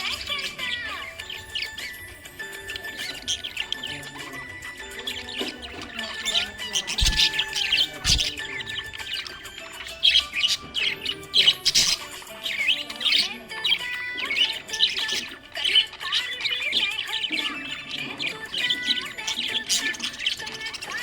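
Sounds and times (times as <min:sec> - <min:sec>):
background music: 0:00.0 - 0:21.0
budgerigar chirping: 0:00.0 - 0:21.0.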